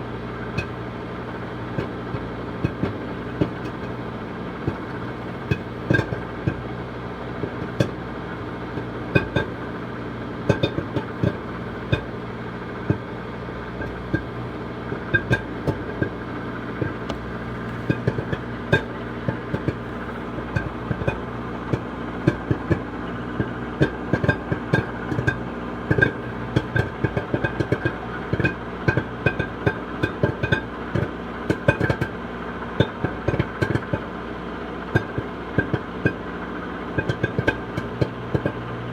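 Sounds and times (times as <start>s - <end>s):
microwave oven humming: 0.0s - 38.9s
popcorn popping: 0.0s - 38.9s.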